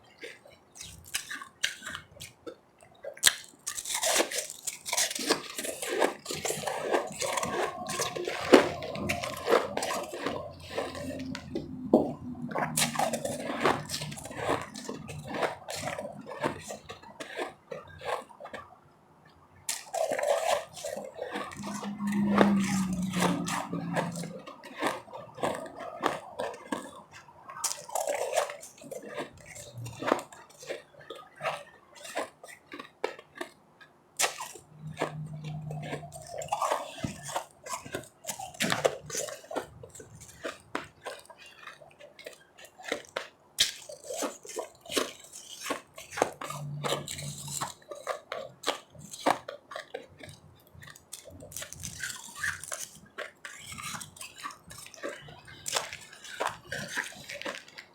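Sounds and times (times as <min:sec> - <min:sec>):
ice crunching between teeth: 0:00.0 - 0:57.9.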